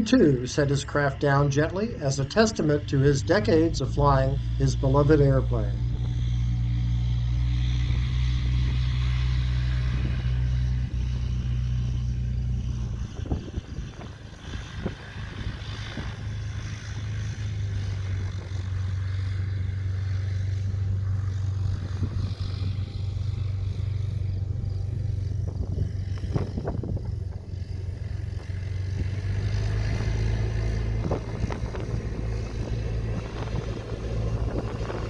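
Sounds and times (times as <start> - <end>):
steady engine drone: 0.0 - 35.0
wind buffeting microphone: 0.0 - 35.0.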